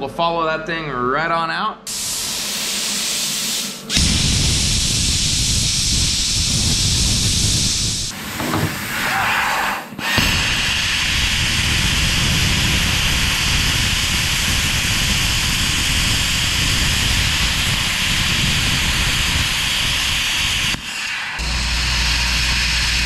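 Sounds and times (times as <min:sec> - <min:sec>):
plasma cutter hissing: 0:01.9 - 0:23.0.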